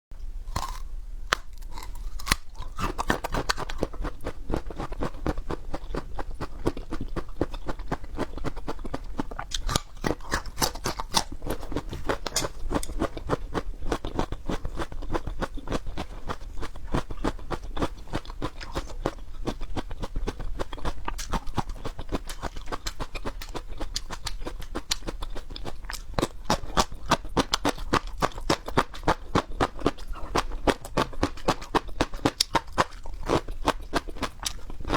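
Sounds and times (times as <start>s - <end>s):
peppers being chewed crunching: 0.5s - 34.9s.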